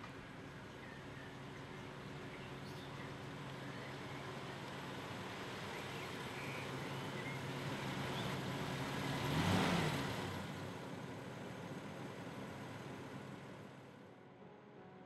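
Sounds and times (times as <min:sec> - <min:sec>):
low engine hum: 0:00.0 - 0:15.0
road noise inside vehicle: 0:00.0 - 0:15.0.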